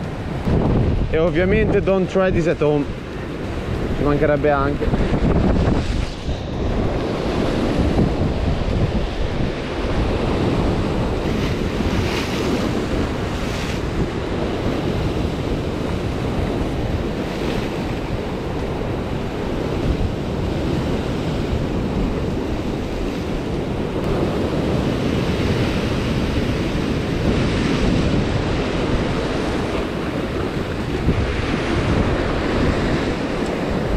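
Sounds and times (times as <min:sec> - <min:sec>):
surf breaking over rocks: 0:00.0 - 0:33.9
wind buffeting microphone: 0:00.0 - 0:33.9.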